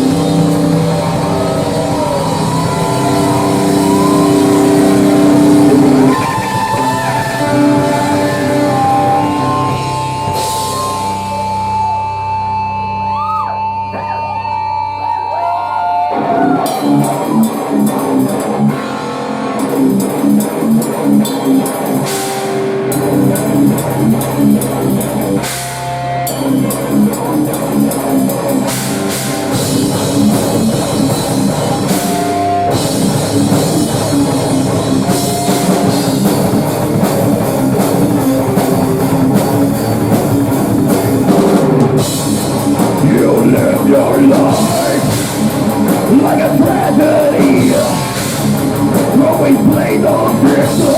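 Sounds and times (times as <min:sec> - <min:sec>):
drum kit beat: 0:00.0 - 0:11.9, 0:16.6 - 0:50.9
electric guitars: 0:00.0 - 0:50.9.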